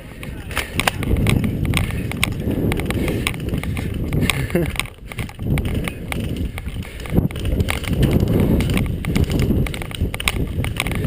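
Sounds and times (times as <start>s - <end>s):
gear rustling: 0.0s - 11.0s
heavy footsteps on ground: 0.0s - 11.0s
sharp clicks: 0.1s - 11.0s.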